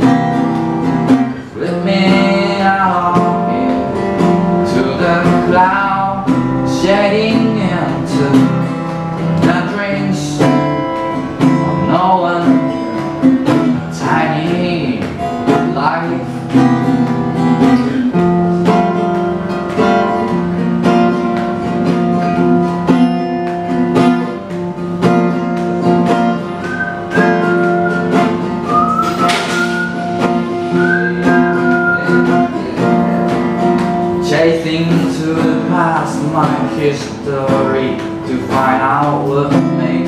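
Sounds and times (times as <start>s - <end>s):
acoustic guitar strumming: 0.0s - 40.0s
high held melody with slides: 0.0s - 40.0s.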